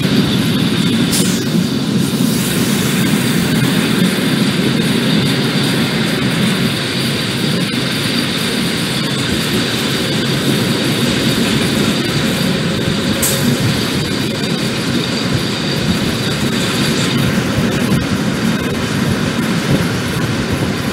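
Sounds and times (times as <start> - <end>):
freight train wheels rumbling on rails: 0.0 - 20.9.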